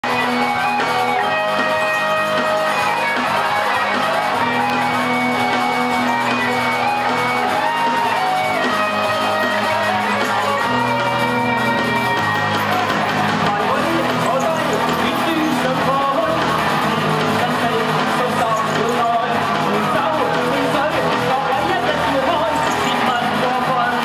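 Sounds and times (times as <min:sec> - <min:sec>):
electric guitars: 0:00.0 - 0:24.0
live rock band playing: 0:00.0 - 0:24.0.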